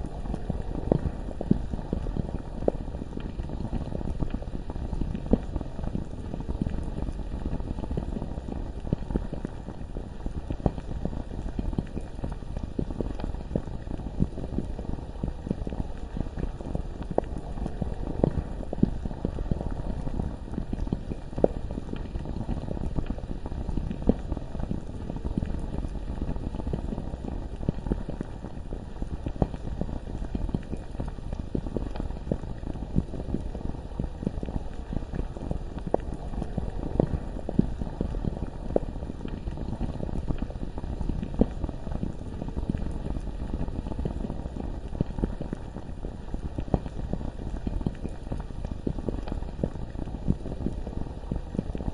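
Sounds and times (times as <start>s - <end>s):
thick lava bubbling: 0.0s - 51.9s.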